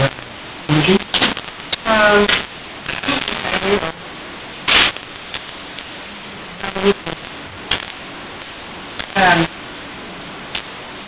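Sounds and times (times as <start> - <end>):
noisy rustle: 0.0 - 11.0
room hiss: 0.0 - 11.0.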